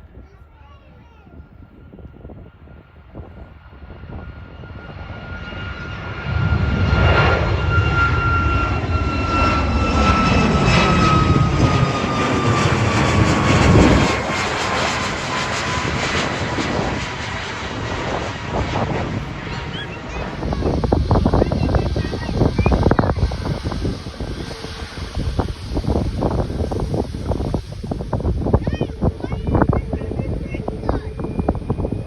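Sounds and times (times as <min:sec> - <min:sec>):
engine whine: 0:00.0 - 0:32.0
jet airliner passing: 0:00.0 - 0:32.0.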